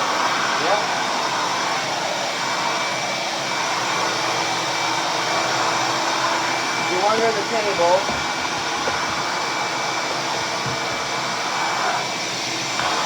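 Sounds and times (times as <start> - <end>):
shop vacuum running: 0.0 - 13.0.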